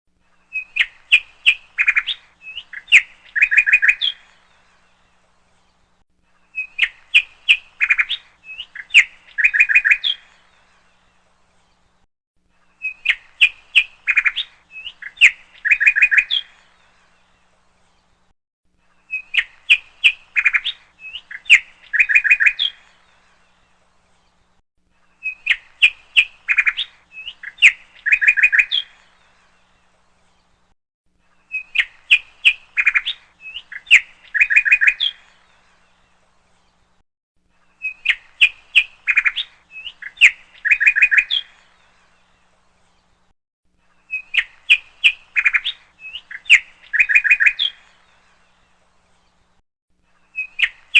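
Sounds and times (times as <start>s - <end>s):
songbird chirps and trills: 0.1s - 50.9s.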